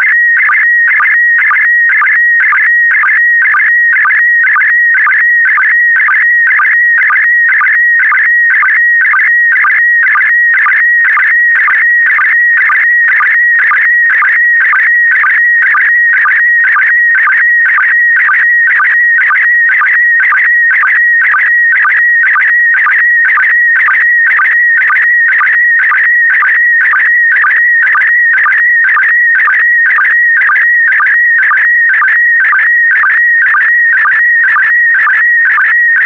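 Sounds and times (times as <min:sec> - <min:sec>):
regular signal pulse: 0:00.0 - 0:36.0.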